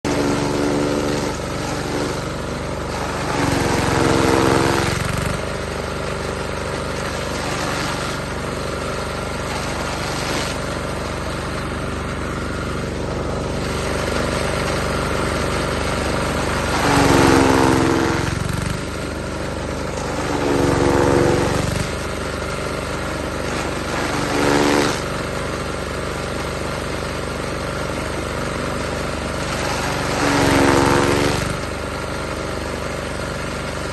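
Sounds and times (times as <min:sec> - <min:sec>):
hay cutter running: 0:00.0 - 0:33.9.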